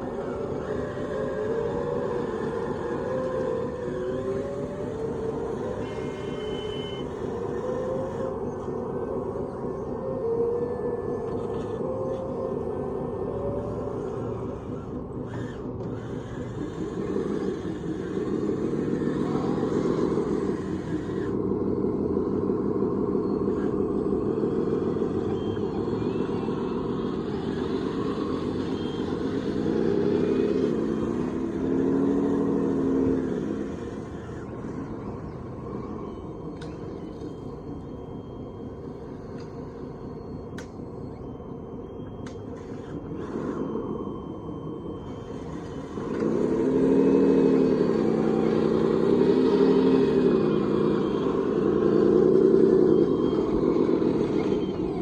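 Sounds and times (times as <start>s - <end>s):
toy machine motor drone: 0.0s - 40.7s, 42.2s - 55.0s.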